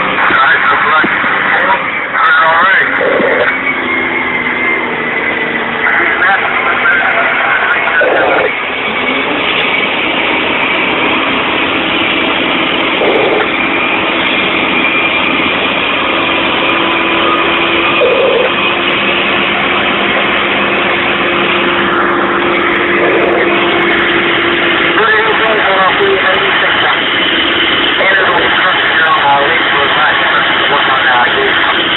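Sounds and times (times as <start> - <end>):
truck diesel engine running: 0.0 - 31.9.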